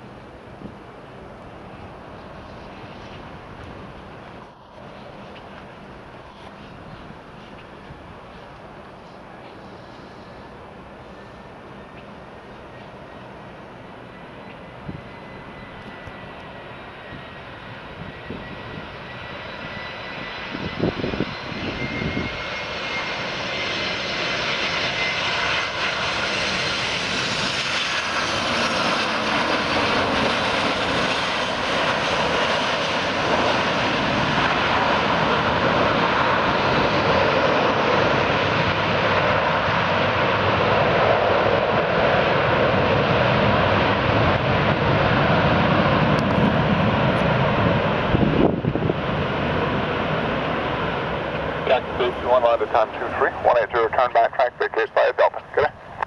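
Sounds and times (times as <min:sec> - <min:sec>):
high engine whine: 0:00.0 - 0:56.0
jet airliner landing roar: 0:00.0 - 0:56.0.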